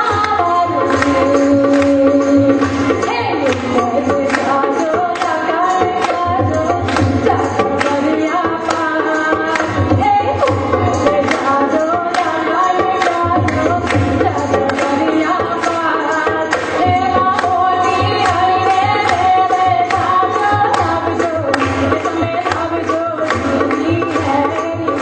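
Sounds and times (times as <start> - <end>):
tabla strokes: 0.0 - 25.0
woman singing folk song: 0.0 - 25.0.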